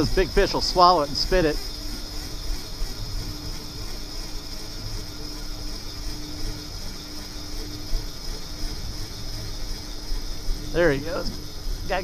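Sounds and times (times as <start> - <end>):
constant high hiss: 0.0 - 12.0.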